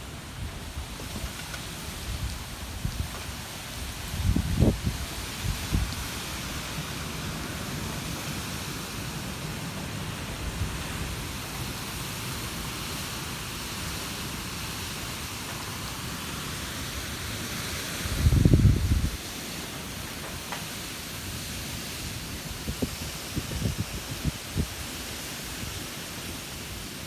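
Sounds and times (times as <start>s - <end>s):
wind blowing: 0.0s - 27.0s.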